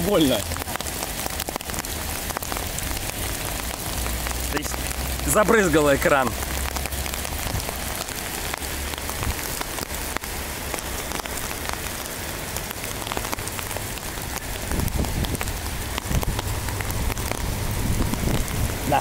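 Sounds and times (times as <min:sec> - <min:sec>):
heavy rain on street: 0:00.0 - 0:19.0.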